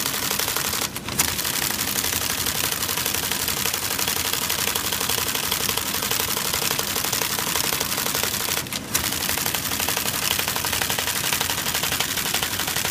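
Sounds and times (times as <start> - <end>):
sharp typewriter clack: 0.0 - 12.9
typewriter mechanism typing: 0.0 - 12.9.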